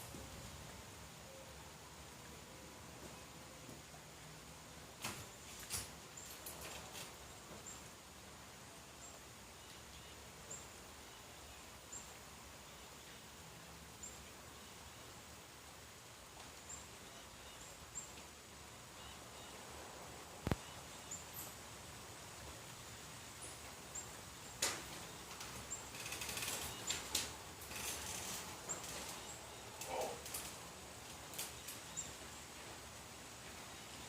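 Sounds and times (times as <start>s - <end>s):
light rain hiss: 0.0s - 34.0s.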